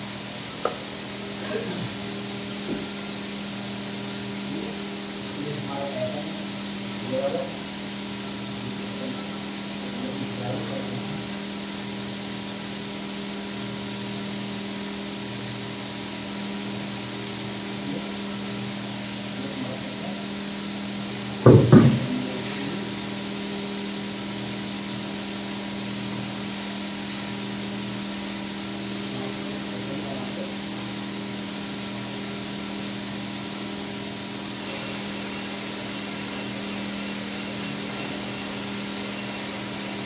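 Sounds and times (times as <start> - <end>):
blower motor humming: 0.0 - 40.0.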